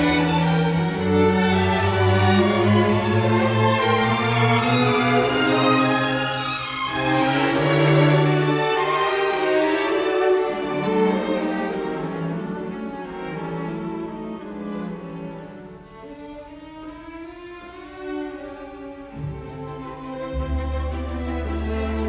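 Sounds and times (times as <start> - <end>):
bowed strings sustained notes: 0.0 - 15.7, 19.1 - 22.0.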